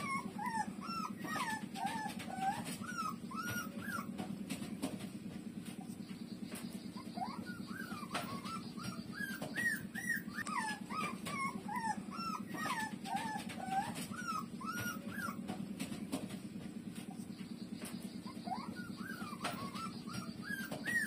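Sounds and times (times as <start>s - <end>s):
puppies whimpering: 0.0s - 4.5s, 5.8s - 16.0s, 17.0s - 21.0s
steady low hum: 0.0s - 21.0s.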